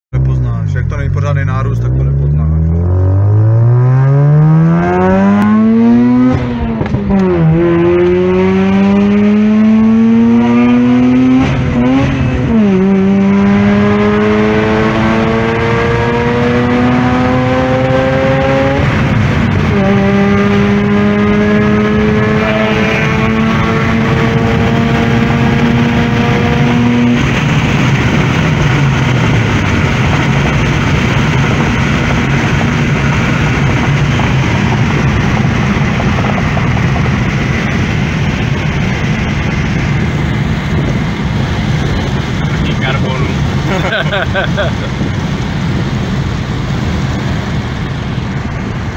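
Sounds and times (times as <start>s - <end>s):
rotary engine at full throttle: 0.4s - 48.9s.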